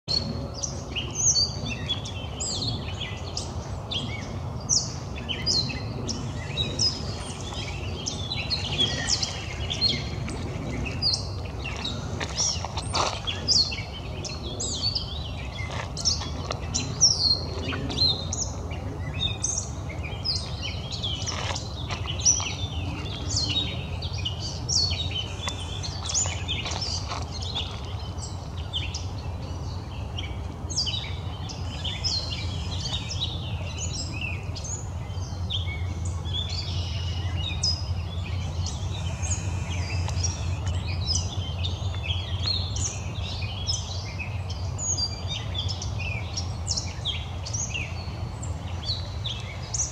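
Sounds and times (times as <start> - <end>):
steady low hum: 0.1 - 49.9
wild birds chirping and singing: 0.1 - 49.9.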